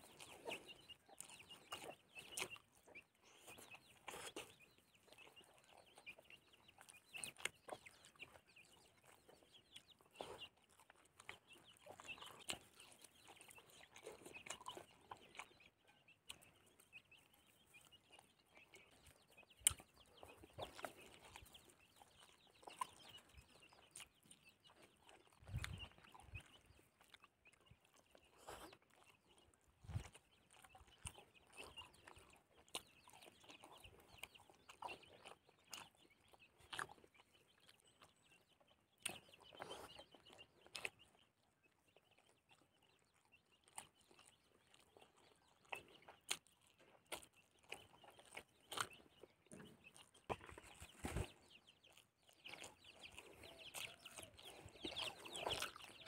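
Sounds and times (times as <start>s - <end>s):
chickens clucking: 0.0s - 56.0s
soft chewing and lip smacks: 0.0s - 56.0s.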